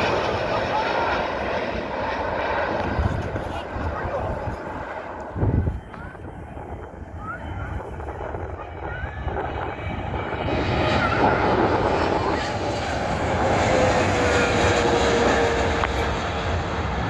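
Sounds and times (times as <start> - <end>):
jet airliner engines passing: 0.0 - 17.0
jet engine whine sliding down: 0.0 - 17.0.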